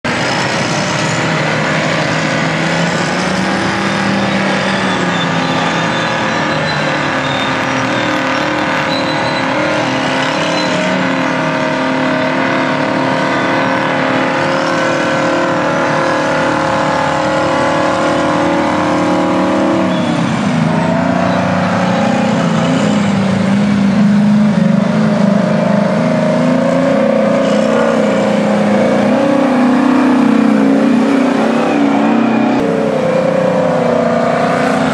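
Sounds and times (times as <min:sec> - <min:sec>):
large diesel truck engine: 0:00.0 - 0:34.9.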